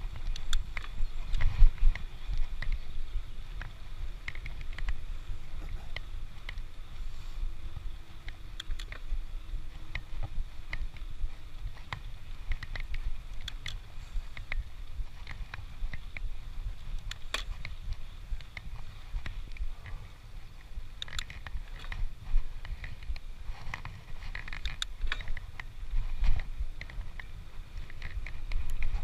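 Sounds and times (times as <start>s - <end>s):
bicycle clicks and rattles: 0.0s - 29.0s
wind rumble on microphone: 0.0s - 29.0s.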